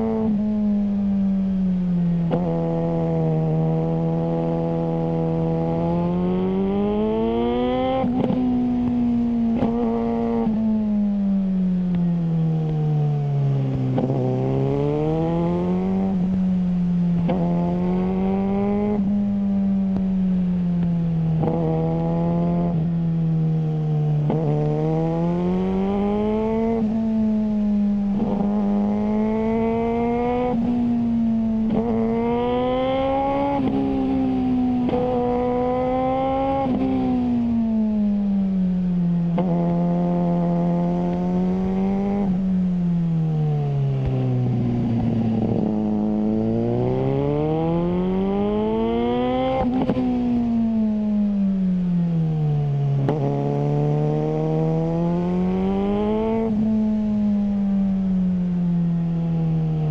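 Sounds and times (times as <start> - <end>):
motorcycle engine revving: 1.8 - 11.2, 13.3 - 59.9.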